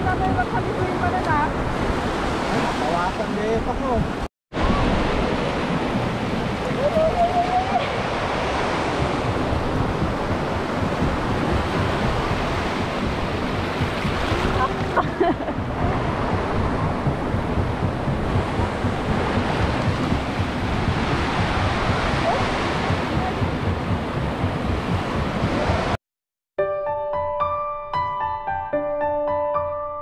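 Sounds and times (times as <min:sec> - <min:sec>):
wind buffeting microphone: 0:00.0 - 0:26.0
small waves washing on sand: 0:00.1 - 0:26.0.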